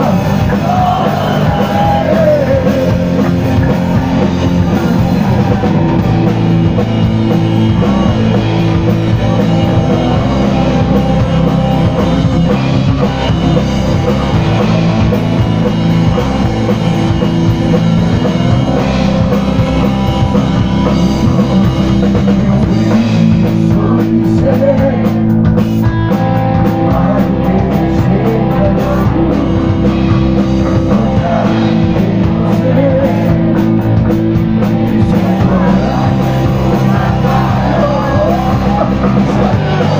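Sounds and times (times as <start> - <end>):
person singing: 0.0 - 25.5, 26.5 - 34.0, 34.6 - 39.9
drum kit: 0.0 - 39.9
electric guitars: 0.0 - 39.9.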